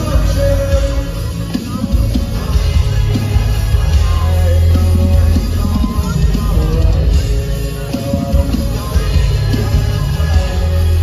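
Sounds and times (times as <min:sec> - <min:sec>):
live rock band playing: 0:00.0 - 0:11.0
man singing: 0:00.0 - 0:11.0.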